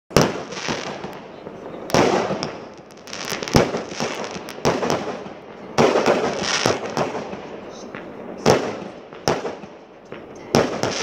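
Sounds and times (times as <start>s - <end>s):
fireworks bangs: 0.1s - 11.0s
fireworks crackling: 0.1s - 11.0s.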